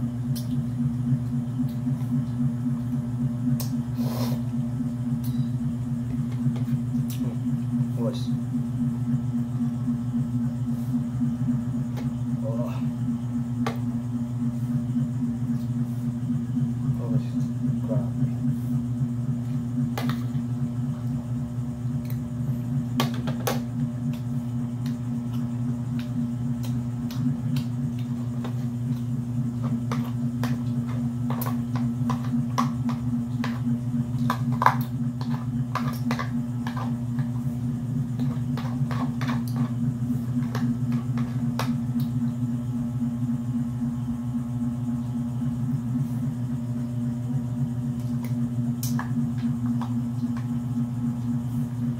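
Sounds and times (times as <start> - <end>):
low hum: 0.0 - 51.9.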